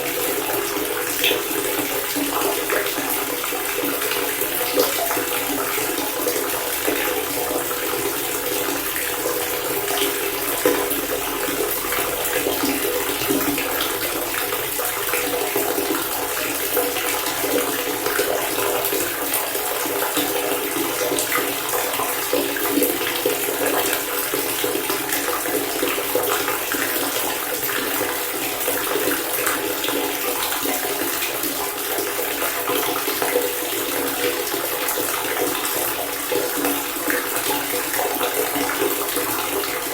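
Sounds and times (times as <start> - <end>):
water pouring from faucet: 0.0 - 39.9.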